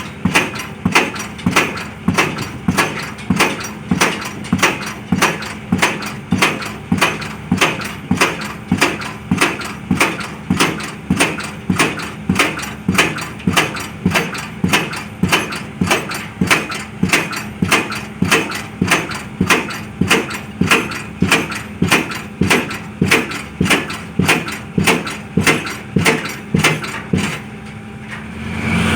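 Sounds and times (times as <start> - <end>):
pile-driving hammer striking metal: 0.0 - 27.6
rig engine hum: 0.0 - 28.9.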